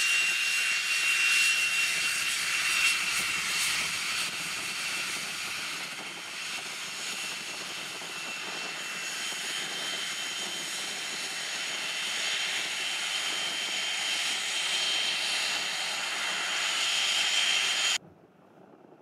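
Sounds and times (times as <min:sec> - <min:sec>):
jet engine whine and hiss: 0:00.0 - 0:18.0.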